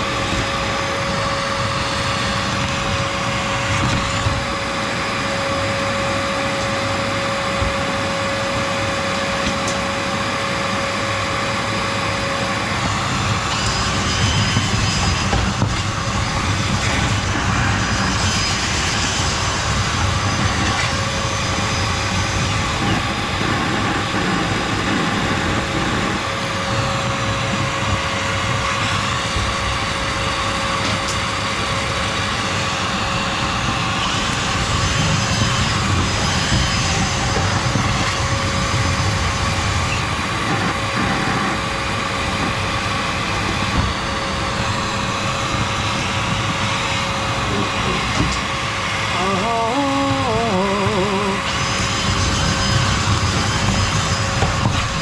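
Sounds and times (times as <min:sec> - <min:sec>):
vacuum cleaner whining: 0:00.0 - 0:55.0.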